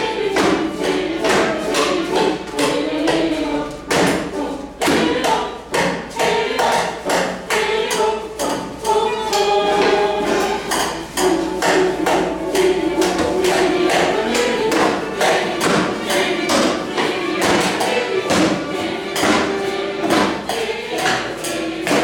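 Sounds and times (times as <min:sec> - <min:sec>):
percussion on household objects: 0:00.0 - 0:22.0.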